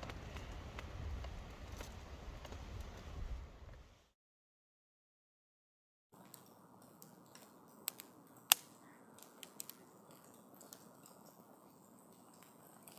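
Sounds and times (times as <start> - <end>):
wood fire crackling: 0.0 - 4.1, 6.2 - 12.9.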